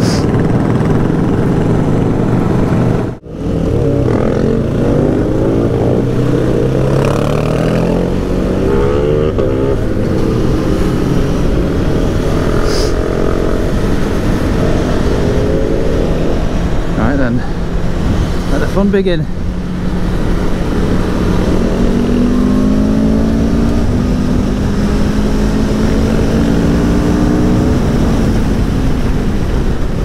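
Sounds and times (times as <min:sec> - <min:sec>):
vehicle engine accelerating: 0:00.0 - 0:18.7, 0:19.3 - 0:30.0
wind and road noise: 0:00.0 - 0:30.0.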